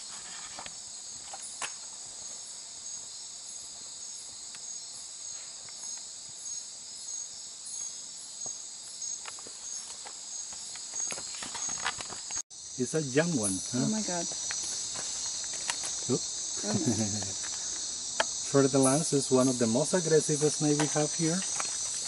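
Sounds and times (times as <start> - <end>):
insects buzzing trill: 0.0 - 22.0.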